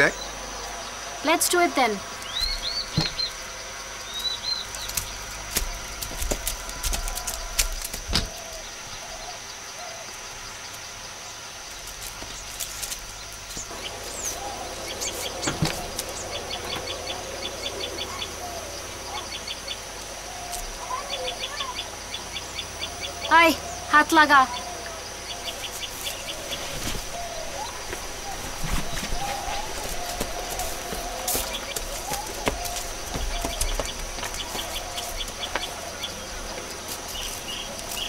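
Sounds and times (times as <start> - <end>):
birds chirping: 0.0 - 38.0
steady high hiss: 0.0 - 38.0.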